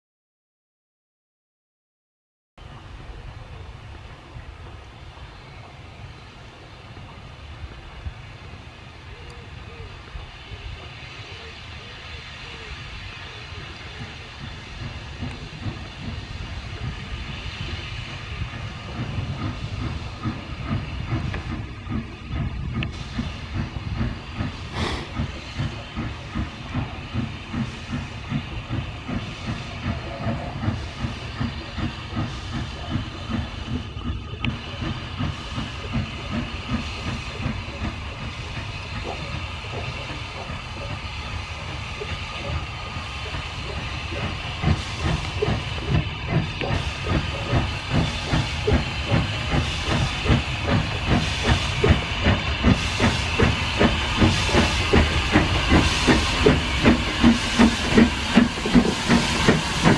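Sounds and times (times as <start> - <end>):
steam locomotive exhaust beats: 2.6 - 59.9
steam hissing: 3.1 - 59.9.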